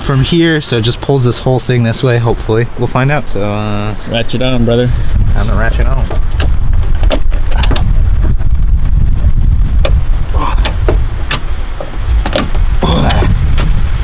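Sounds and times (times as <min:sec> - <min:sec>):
wind rumble on microphone: 0:02.3 - 0:14.0.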